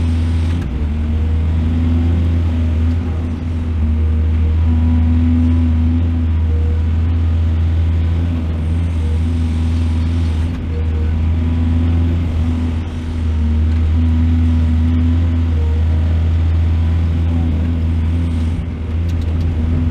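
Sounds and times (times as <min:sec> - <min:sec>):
excavator diesel engine droning: 0:00.0 - 0:19.9.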